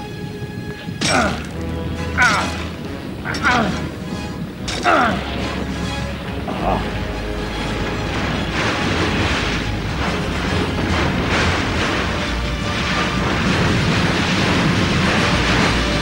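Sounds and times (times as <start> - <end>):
background music: 0.0 - 16.0
cartoon river rushing: 0.0 - 16.0.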